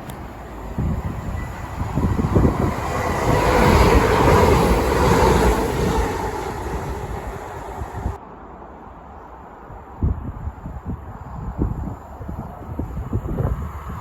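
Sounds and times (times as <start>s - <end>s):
wind buffeting microphone: 0.0s - 8.2s, 9.6s - 14.0s
train rumbling past: 0.0s - 14.0s.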